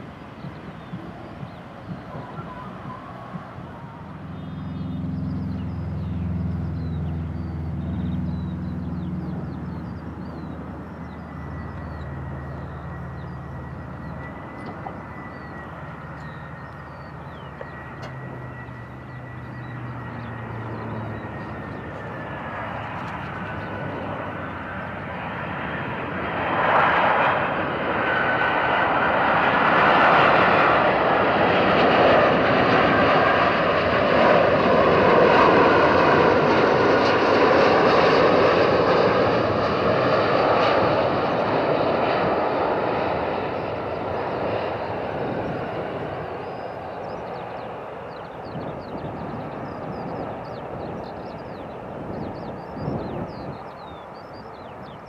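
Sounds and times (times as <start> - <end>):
jet engine whine and roar: 0.0 - 55.0.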